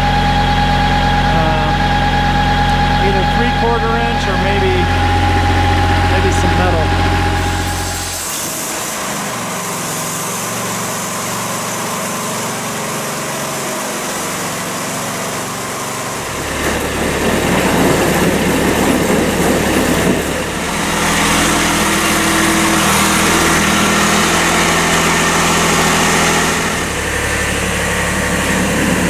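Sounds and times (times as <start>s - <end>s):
compact tractor engine running: 0.0s - 29.0s
mower engine running: 0.0s - 29.0s.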